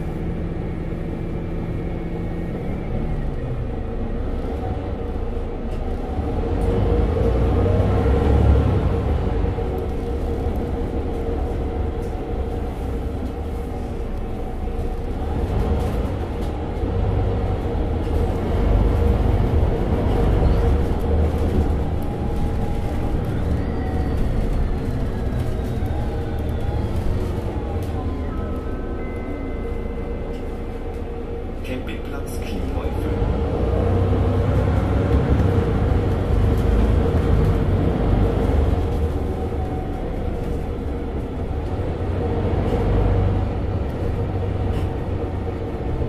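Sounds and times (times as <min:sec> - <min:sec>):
bus engine rumbling: 0:00.0 - 0:46.0.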